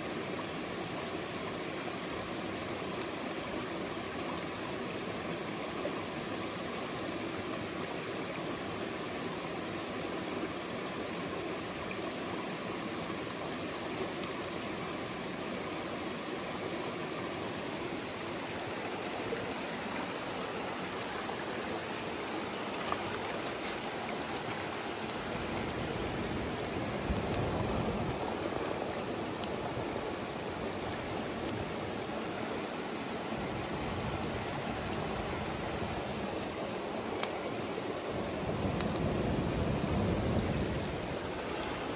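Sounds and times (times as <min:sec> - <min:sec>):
stream rushing over rocks: 0:00.0 - 0:41.9.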